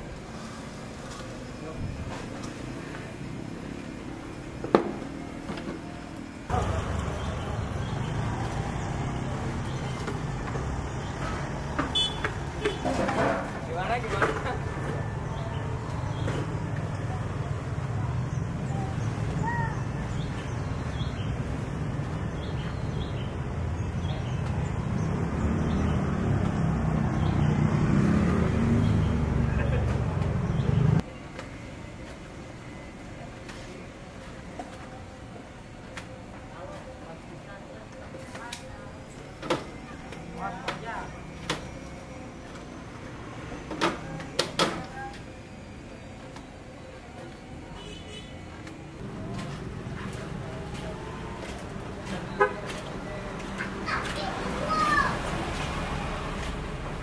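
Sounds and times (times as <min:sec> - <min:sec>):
low traffic rumble: 0:00.0 - 0:57.0.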